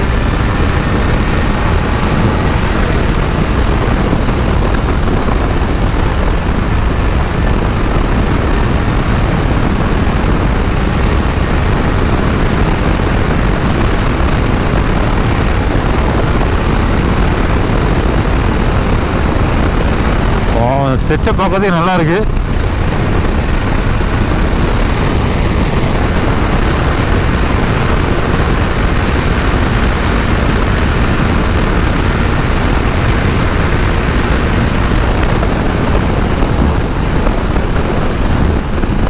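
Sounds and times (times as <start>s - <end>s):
motorcycle engine drone: 0.0s - 39.0s
wind rushing over helmet: 0.0s - 39.0s.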